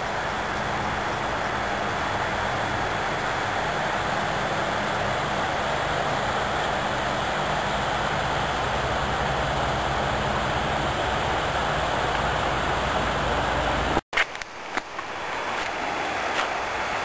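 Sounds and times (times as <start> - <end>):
steady rushing outdoor noise: 0.0 - 17.0.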